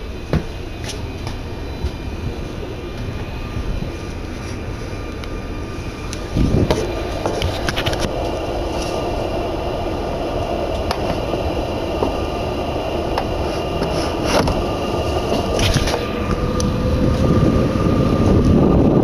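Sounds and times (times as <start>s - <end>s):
train steady whine: 0.0s - 19.0s
train wheel-on-rail rumble: 0.0s - 19.0s.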